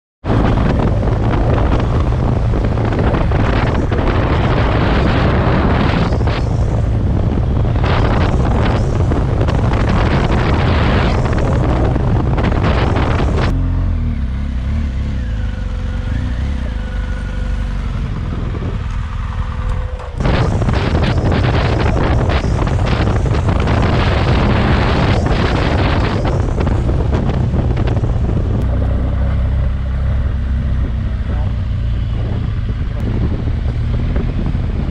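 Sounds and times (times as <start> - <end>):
wind buffeting microphone: 0.2 - 13.6, 17.6 - 34.9
motorcycle engine running: 0.3 - 34.9.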